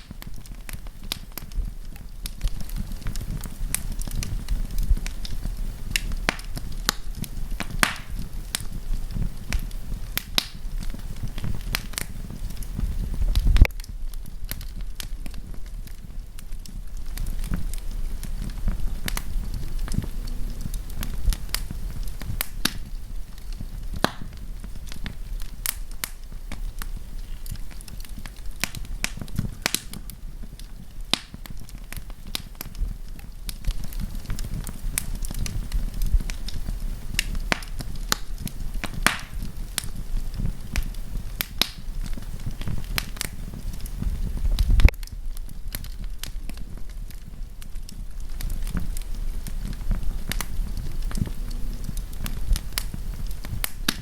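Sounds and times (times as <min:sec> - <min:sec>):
campfire crackling and popping: 0:00.0 - 0:54.0
low rumble of fire: 0:00.0 - 0:54.0.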